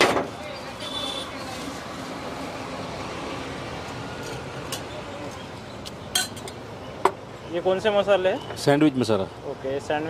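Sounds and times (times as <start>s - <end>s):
outdoor street background noise: 0.0s - 10.0s.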